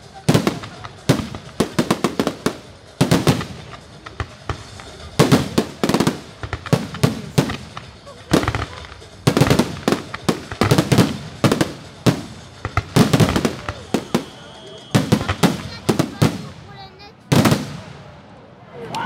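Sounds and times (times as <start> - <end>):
firework shells bursting: 0.2 - 16.5.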